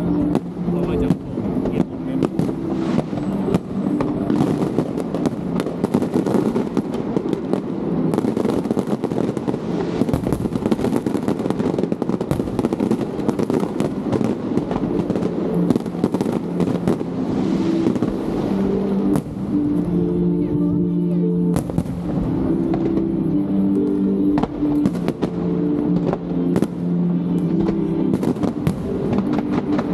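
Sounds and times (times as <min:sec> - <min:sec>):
fireworks bangs and crackles: 0:00.0 - 0:20.8, 0:21.4 - 0:29.9.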